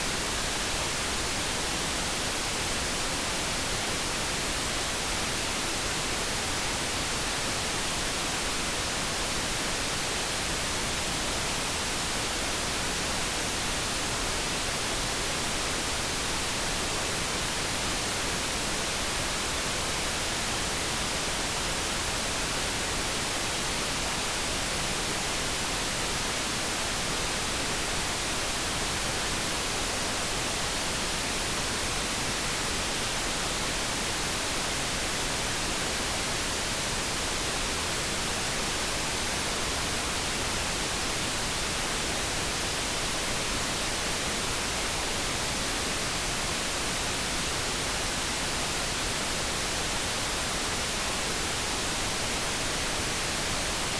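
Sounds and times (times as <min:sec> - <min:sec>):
brown noise hiss: 0:00.0 - 0:53.9.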